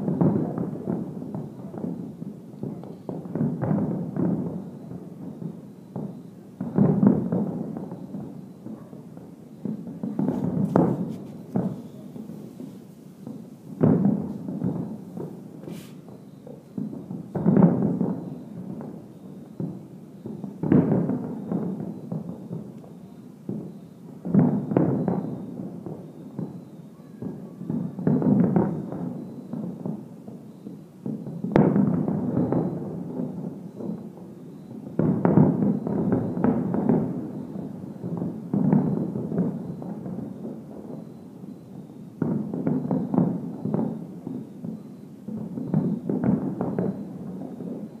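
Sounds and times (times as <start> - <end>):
distant fireworks booming: 0.0 - 48.0.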